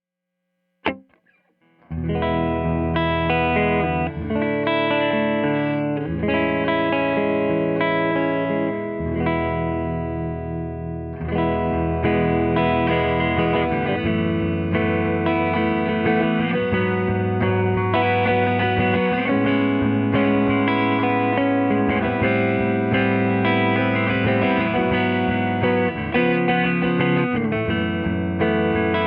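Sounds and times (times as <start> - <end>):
electric guitar chords: 0.8 - 29.0.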